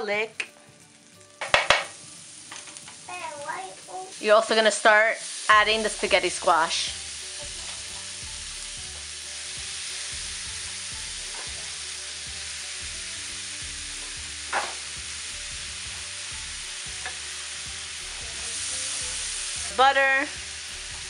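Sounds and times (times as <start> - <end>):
food sizzling in frying pan: 0.0 - 21.0.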